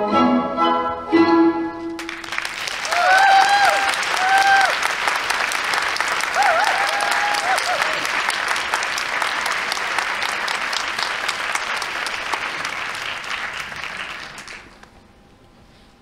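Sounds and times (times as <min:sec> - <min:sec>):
audience applauding: 0:01.9 - 0:14.9.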